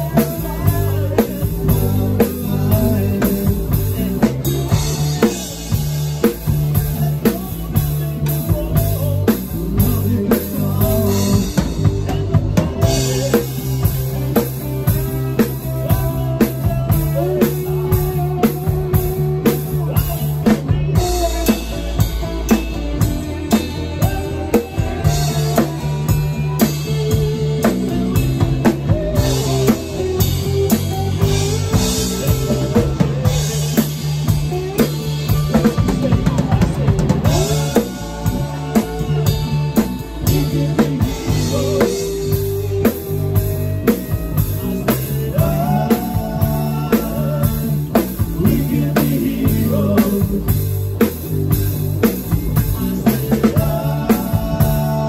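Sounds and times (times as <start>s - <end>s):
drum kit beat: 0.0s - 55.0s
rock band playing: 0.0s - 55.0s.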